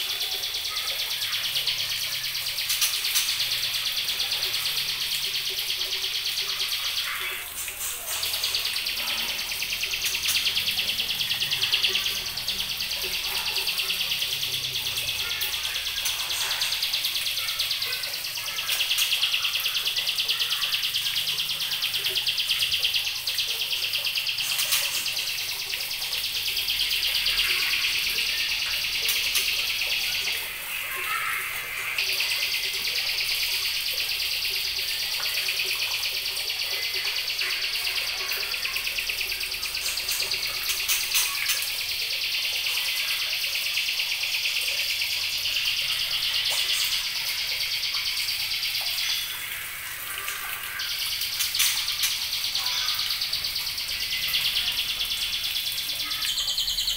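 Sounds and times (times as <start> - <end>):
young birds singing fast chatter: 0.0 - 56.9.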